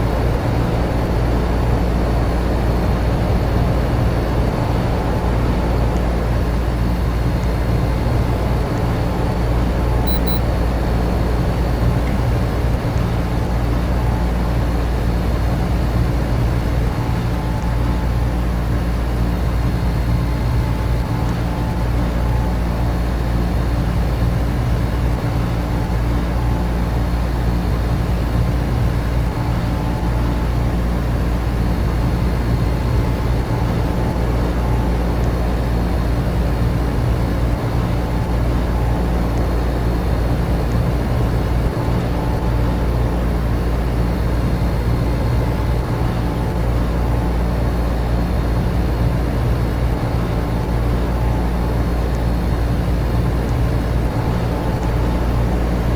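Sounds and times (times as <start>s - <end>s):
air conditioner and fans humming: 0.0s - 55.9s.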